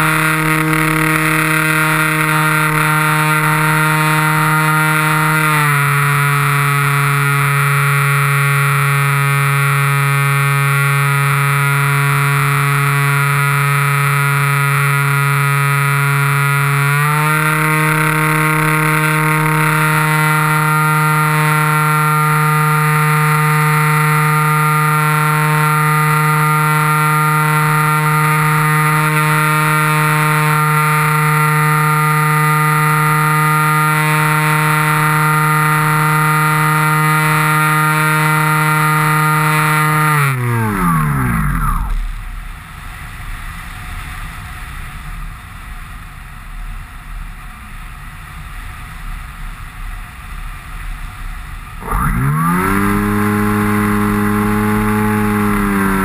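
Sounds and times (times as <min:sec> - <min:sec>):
model plane motor whine: 0:00.0 - 0:43.6, 0:50.8 - 0:56.0.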